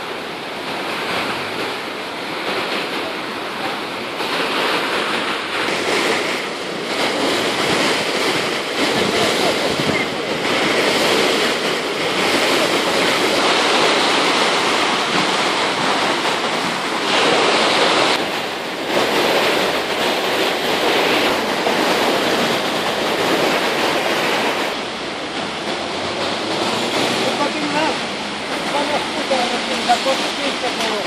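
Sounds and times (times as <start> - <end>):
floodwater rushing and churning: 0.0 - 31.0.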